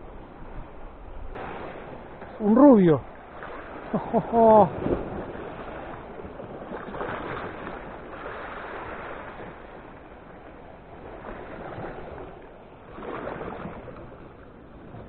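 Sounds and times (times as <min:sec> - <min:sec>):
sea waves washing against rocks: 0:00.0 - 0:15.0.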